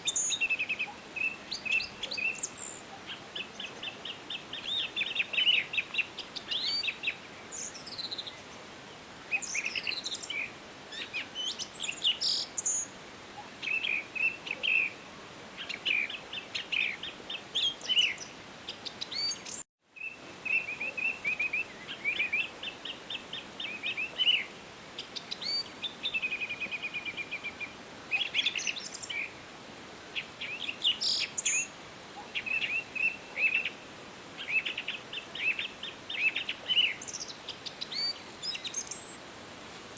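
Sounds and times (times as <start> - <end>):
songbirds singing: 0.0 - 29.4, 30.1 - 39.9
faint steady hiss: 0.0 - 39.9.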